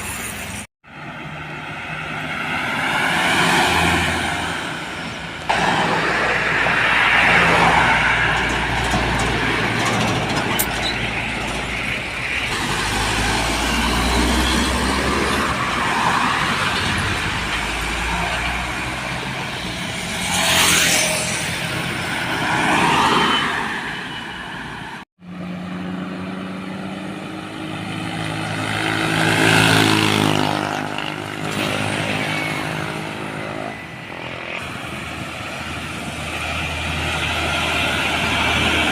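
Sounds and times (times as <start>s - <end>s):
trucks and traffic passing: 0.0s - 38.9s.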